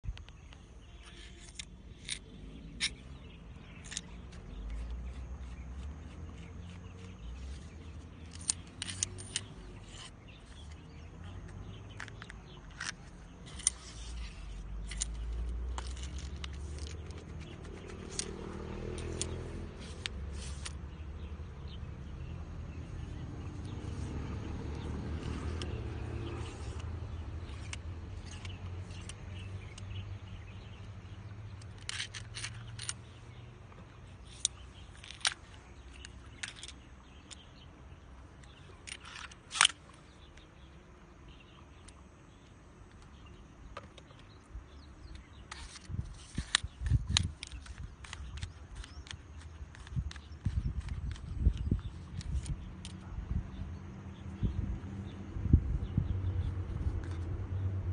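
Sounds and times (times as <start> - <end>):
fishing rod clicks and knocks: 0.1 - 40.6, 41.5 - 53.2.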